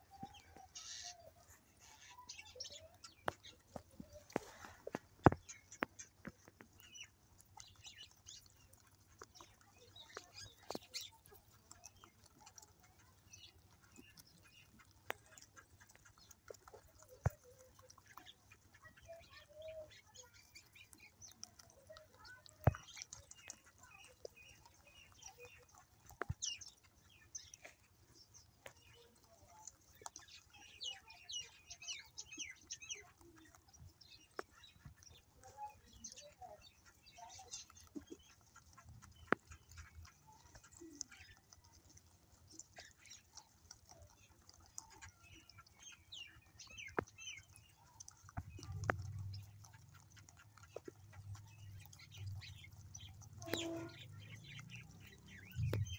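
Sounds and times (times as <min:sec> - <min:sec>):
rabbits chewing: 0:00.0 - 0:55.9
small birds chirping: 0:00.0 - 0:55.9.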